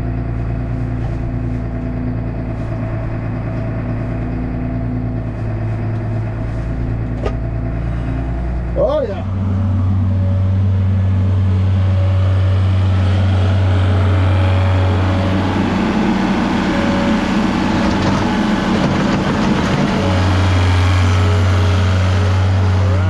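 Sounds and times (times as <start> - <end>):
rough busy engine sound: 0.0 - 23.0
tractor engine running: 0.0 - 23.0.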